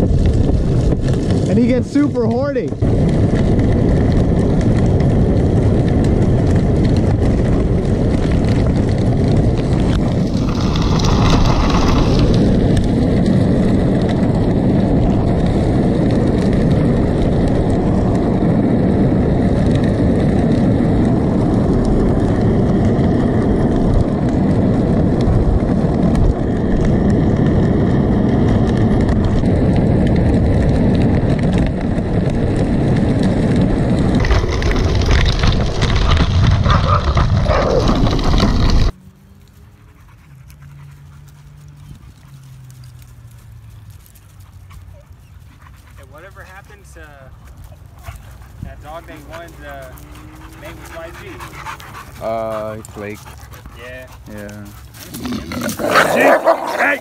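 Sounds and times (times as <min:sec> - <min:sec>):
wind rush on microphone: 0:00.0 - 0:39.0, 0:39.8 - 0:57.0
bicycle tyres on wet pavement: 0:00.0 - 0:57.0.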